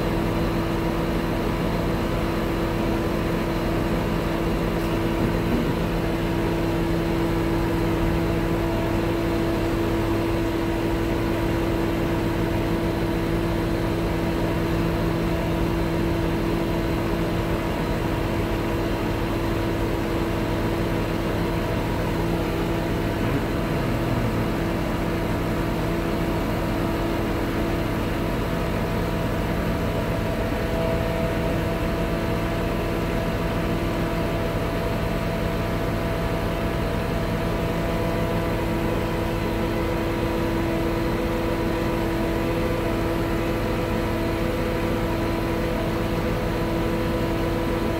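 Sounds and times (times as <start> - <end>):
diesel truck engine humming: 0.1 - 40.2.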